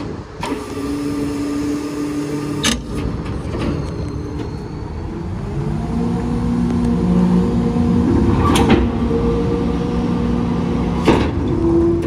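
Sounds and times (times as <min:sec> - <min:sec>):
garbage truck engine and hydraulics: 0:00.0 - 0:12.0.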